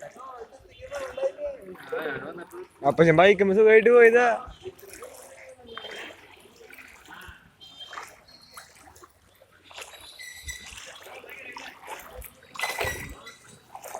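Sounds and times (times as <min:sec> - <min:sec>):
water splashing and trickling: 0:00.0 - 0:13.9.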